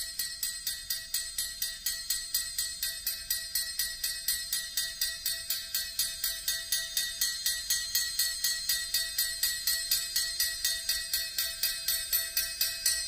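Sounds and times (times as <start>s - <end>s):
triangle tapped with metal beater: 0.0s - 13.0s.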